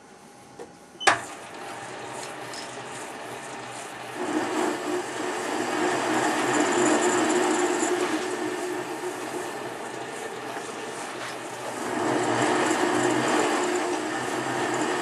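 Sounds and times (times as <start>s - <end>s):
steady hum: 0.0s - 15.0s
metal lathe running: 1.1s - 15.0s.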